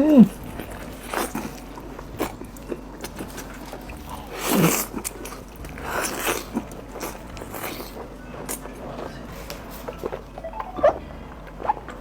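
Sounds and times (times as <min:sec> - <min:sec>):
meat being bitten and chewed: 0:00.0 - 0:12.0
wet mouth clicks: 0:00.0 - 0:12.0.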